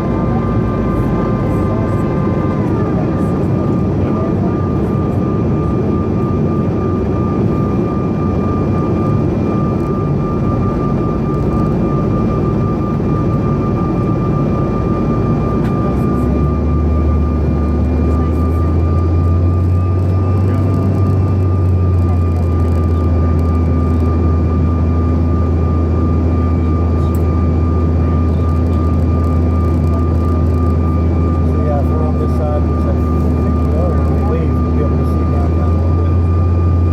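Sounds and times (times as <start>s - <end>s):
jet cabin engine and air noise: 0.0s - 36.9s.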